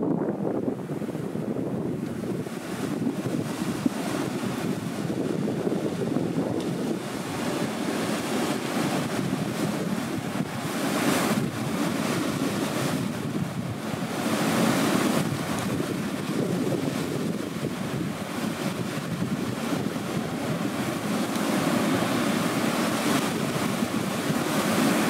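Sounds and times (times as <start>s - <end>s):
strong blizzard wind gusts: 0.0s - 25.0s.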